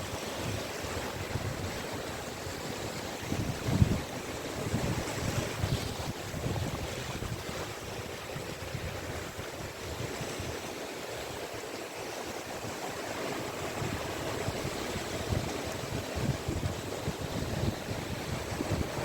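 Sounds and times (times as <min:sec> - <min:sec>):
waves washing onto beach: 0:00.0 - 0:19.0
wind rumbling on microphone: 0:00.0 - 0:19.0.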